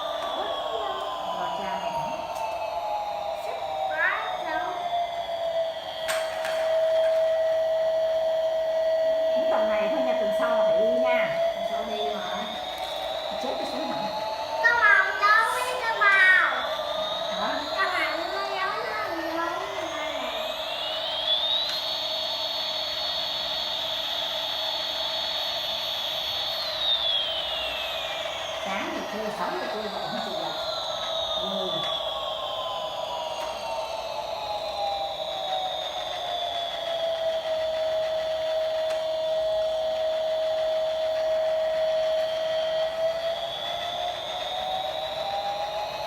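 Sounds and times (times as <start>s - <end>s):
toy jet engine whine: 0.0s - 46.0s.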